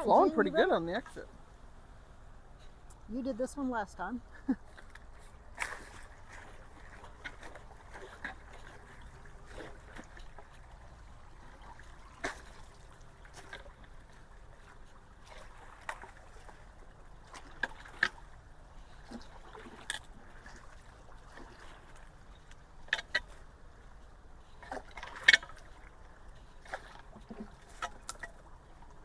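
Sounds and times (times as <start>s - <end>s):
creek water trickling: 0.0s - 29.0s.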